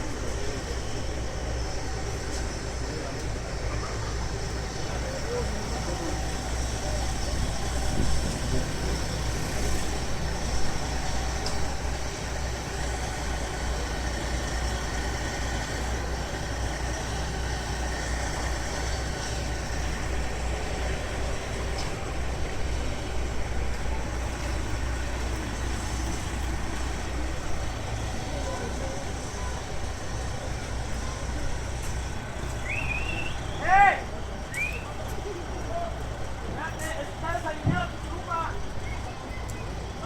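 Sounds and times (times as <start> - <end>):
helicopter engine drone: 0.0 - 40.0.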